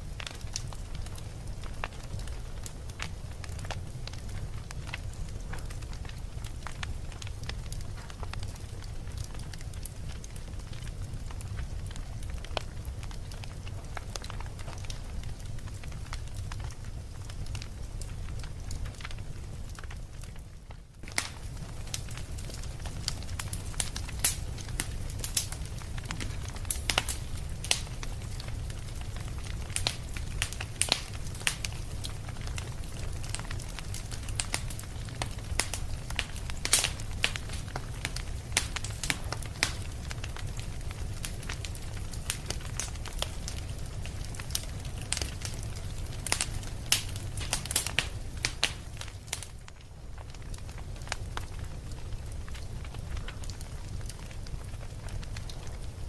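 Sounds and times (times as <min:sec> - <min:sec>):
fire low rumble: 0:00.0 - 0:56.0
wood fire crackling: 0:00.0 - 0:56.0.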